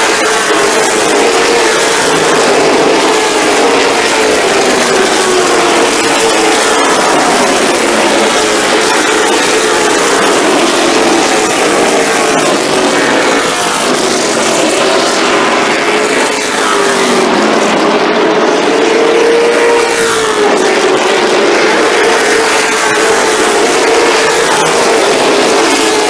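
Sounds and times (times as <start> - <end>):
race car engines roaring: 0.0 - 26.0.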